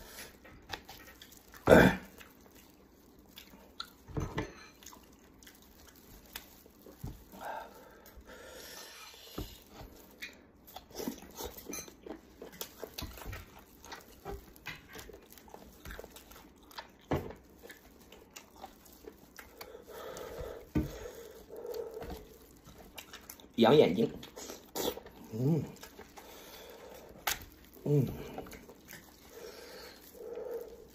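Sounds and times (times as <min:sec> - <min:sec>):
chewing and lip smacks: 0:00.1 - 0:04.1, 0:04.7 - 0:07.4, 0:09.1 - 0:30.9
squelching meat: 0:04.7 - 0:30.9.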